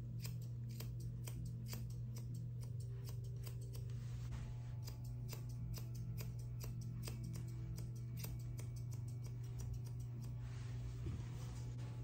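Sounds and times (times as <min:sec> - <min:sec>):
shears snipping hair: 0:00.0 - 0:10.8
steady low hum: 0:00.0 - 0:12.0.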